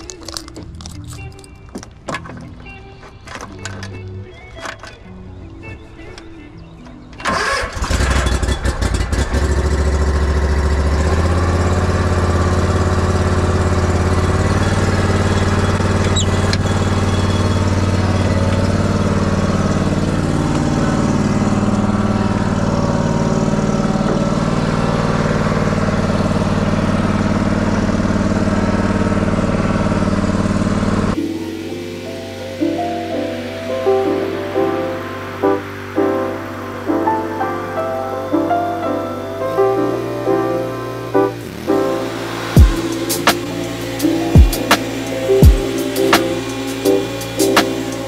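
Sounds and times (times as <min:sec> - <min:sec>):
mower engine running: 0:07.1 - 0:48.0.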